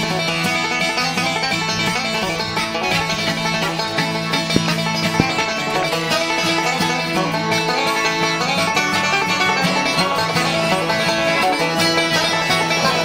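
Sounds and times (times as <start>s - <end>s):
banjo: 0.0s - 13.0s
guitar: 0.0s - 13.0s.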